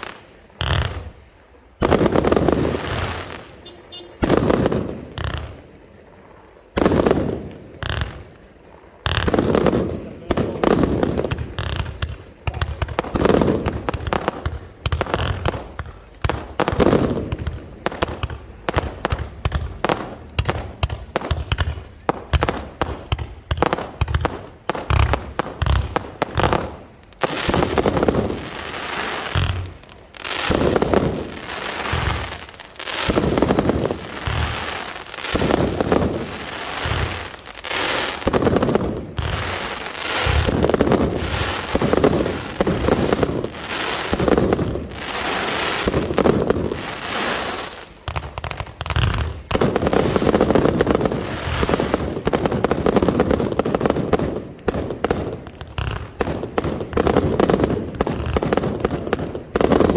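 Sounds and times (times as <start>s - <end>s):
fireworks bursts and bangs: 0.0s - 59.9s.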